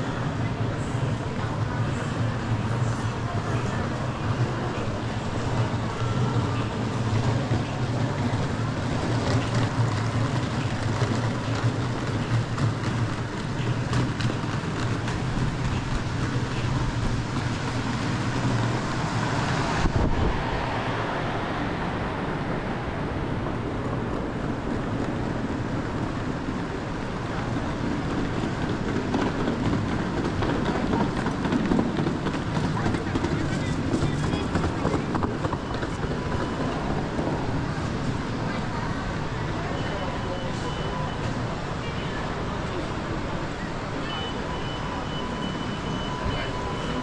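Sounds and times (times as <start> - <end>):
indistinct crowd noise: 0.0 - 47.0.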